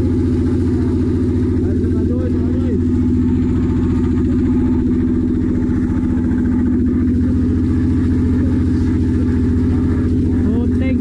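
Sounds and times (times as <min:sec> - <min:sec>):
boat engine throbbing: 0:00.0 - 0:11.0.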